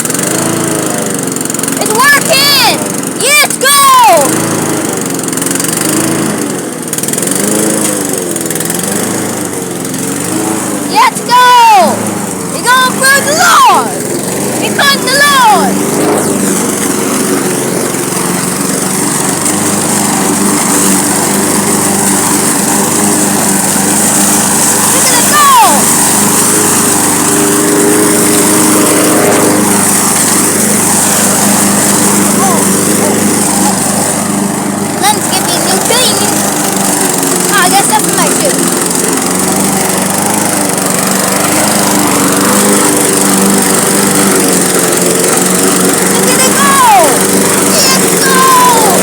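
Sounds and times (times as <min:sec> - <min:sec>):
lawn mower engine cutting grass: 0:00.0 - 0:49.0
mower blade hiss: 0:00.0 - 0:49.0.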